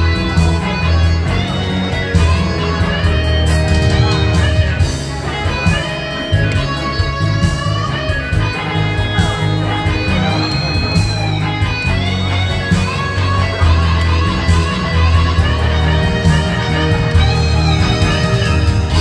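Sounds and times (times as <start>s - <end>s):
guitar-led ballad melody: 0.0s - 19.0s
heavy steady bass: 0.0s - 19.0s.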